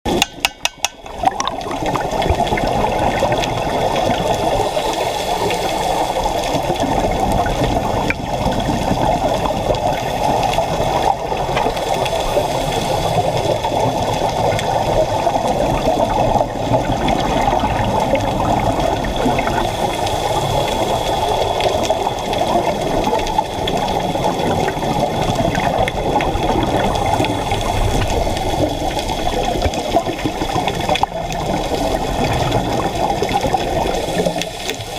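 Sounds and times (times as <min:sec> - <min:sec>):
muffled underwater water rushing: 0:00.1 - 0:34.9.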